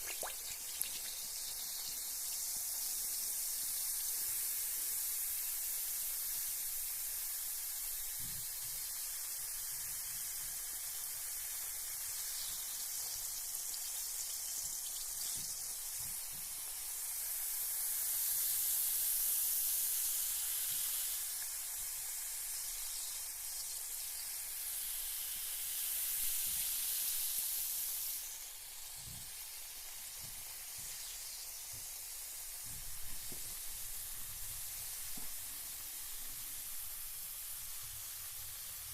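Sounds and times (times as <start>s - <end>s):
bath bomb fizzing in water: 0.0s - 38.9s.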